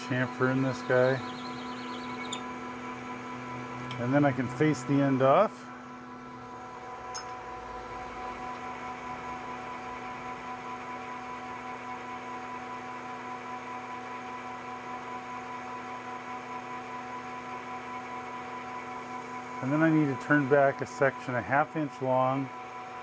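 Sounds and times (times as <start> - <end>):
metal lathe humming: 0.0 - 23.0.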